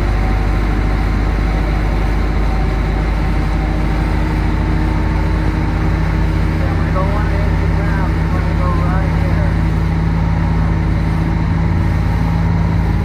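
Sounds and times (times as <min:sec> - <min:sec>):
speedboat engine drone: 0:00.0 - 0:13.0
wind and water rushing: 0:00.0 - 0:13.0.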